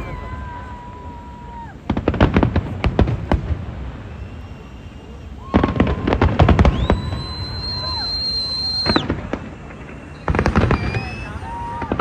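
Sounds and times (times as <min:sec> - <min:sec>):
fireworks banging: 0:00.0 - 0:12.0
fireworks whistling: 0:00.0 - 0:12.0.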